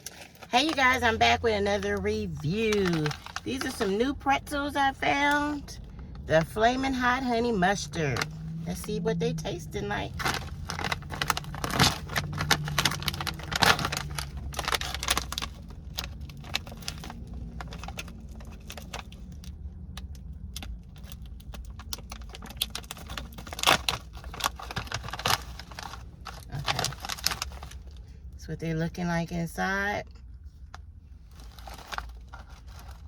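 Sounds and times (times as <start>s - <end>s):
plastic snack bag crinkling: 0.0s - 28.1s, 31.3s - 33.0s.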